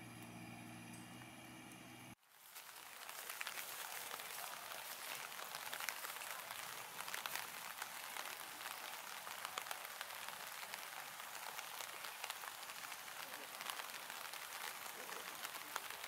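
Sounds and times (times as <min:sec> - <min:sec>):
raindrops ticking: 0:02.6 - 0:16.0.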